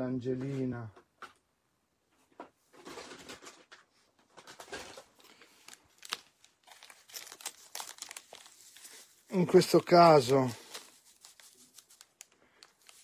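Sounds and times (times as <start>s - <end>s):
crinkling and rustling material: 2.1s - 13.0s.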